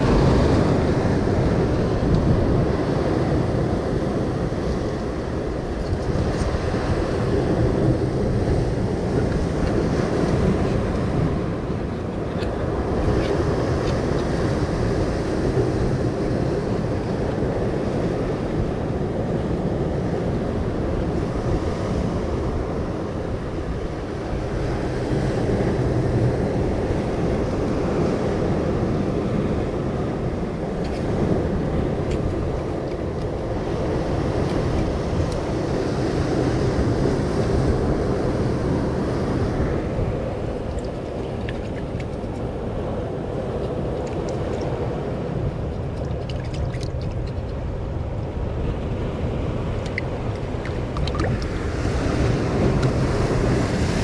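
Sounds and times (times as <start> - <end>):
surf washing against rocks: 0.0 - 54.0
wind buffeting microphone: 0.0 - 54.0.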